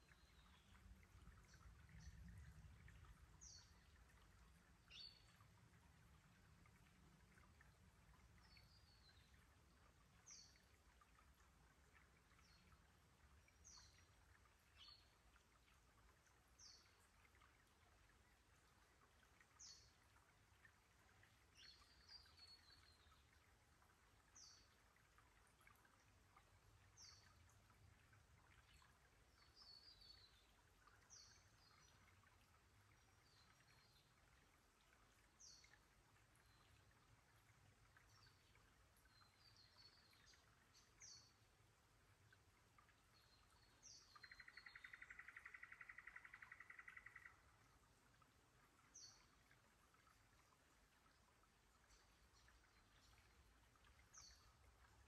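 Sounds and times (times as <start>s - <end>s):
faint creek trickle: 0.0s - 55.0s.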